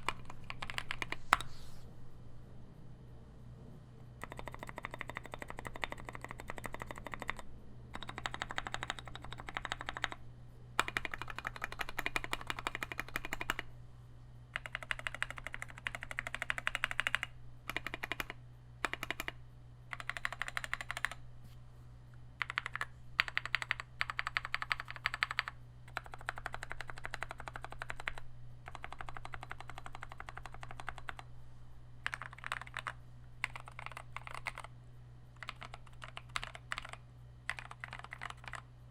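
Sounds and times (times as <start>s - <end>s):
fast typing on mechanical keyboard: 0.0s - 1.4s, 4.2s - 10.2s, 10.8s - 13.7s, 14.6s - 21.2s, 22.4s - 31.3s, 32.0s - 34.7s, 35.4s - 38.6s
steady low hum: 0.0s - 38.9s.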